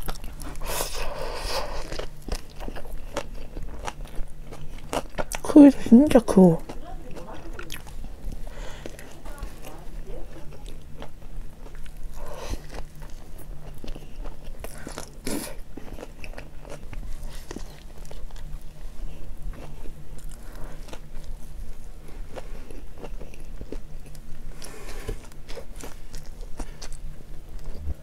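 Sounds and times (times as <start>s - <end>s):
crisp crunches of chewing: 0.0s - 28.0s.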